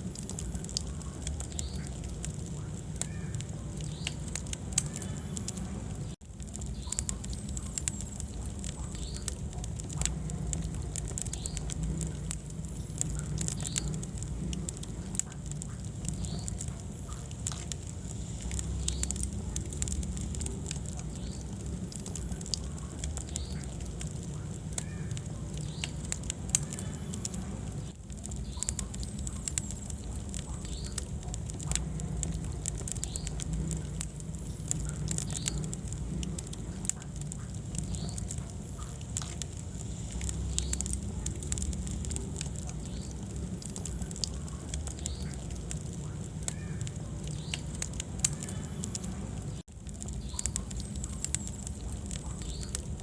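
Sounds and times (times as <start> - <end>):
logs crackling and popping: 0.0 - 53.0
low rumble of flame: 0.0 - 53.0.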